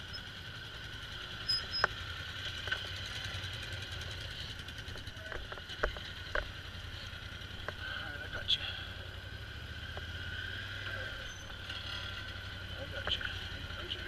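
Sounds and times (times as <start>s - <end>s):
atv engines running slowly: 0.0s - 14.0s.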